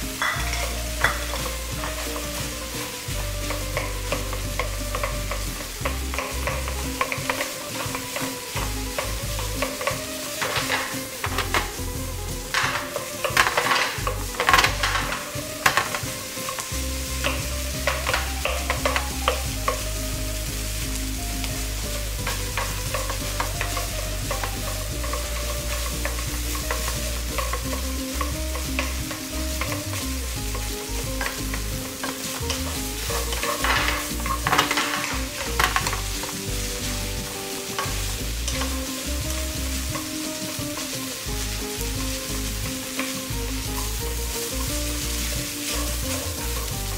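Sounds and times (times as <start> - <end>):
rice sizzling in a frying pan: 0.0 - 46.9
wooden spatula scraping a pan: 0.0 - 46.9.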